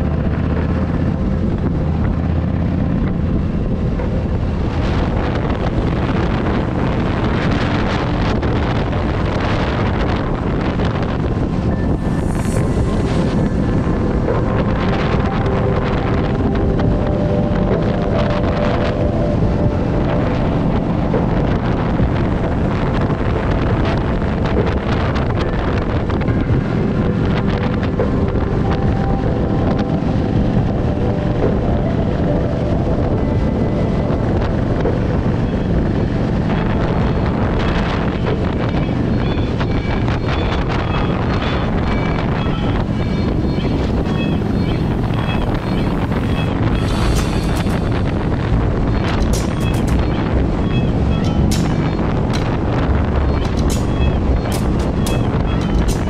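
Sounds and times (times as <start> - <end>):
heavy wind rush on microphone: 0.0 - 56.0.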